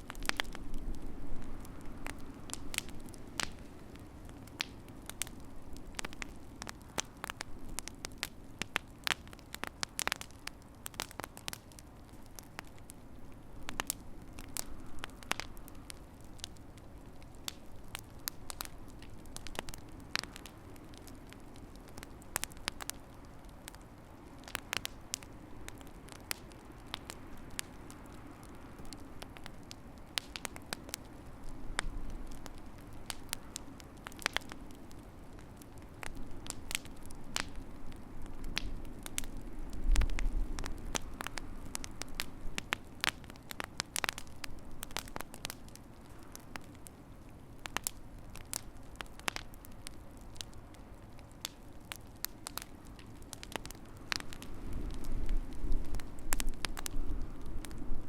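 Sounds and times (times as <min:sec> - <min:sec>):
fire crackling and popping: 0:00.0 - 0:58.0
low fire rumble: 0:00.0 - 0:58.0.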